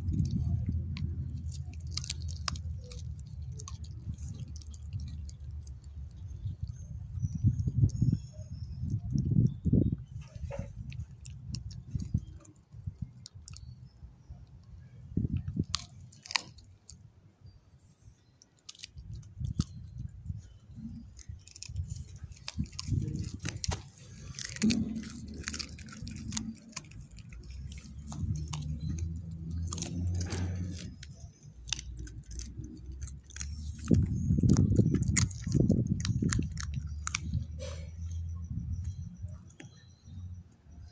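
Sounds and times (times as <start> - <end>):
dog crunching bone: 0.0 - 9.5, 10.2 - 13.8, 14.4 - 17.1, 18.4 - 39.8
low rumble: 0.0 - 13.2, 19.5 - 40.9.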